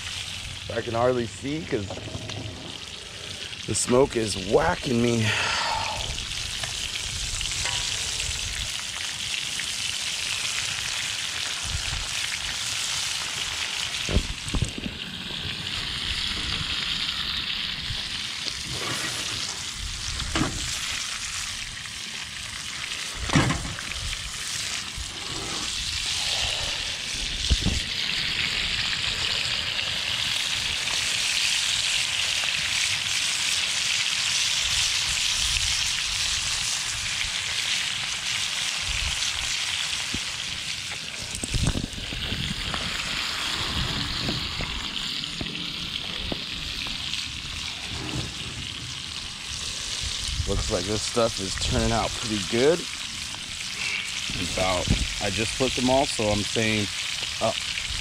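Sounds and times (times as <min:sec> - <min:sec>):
fish fillets sizzling in oil: 0:02.7 - 0:58.0.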